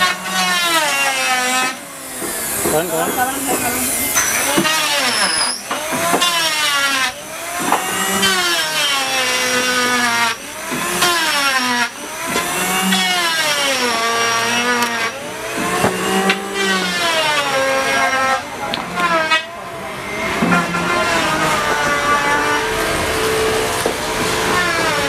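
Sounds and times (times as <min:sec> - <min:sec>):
electric planer cutting wood: 0:00.0 - 0:25.0.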